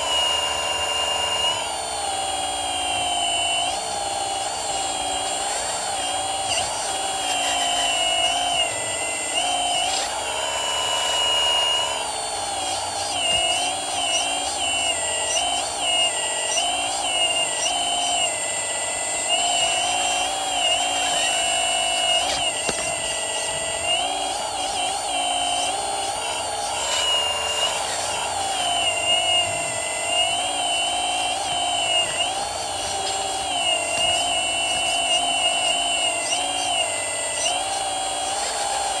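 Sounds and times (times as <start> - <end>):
constant high-pitched tone: 0.0 - 39.0
hydraulic pump whining: 0.0 - 39.0.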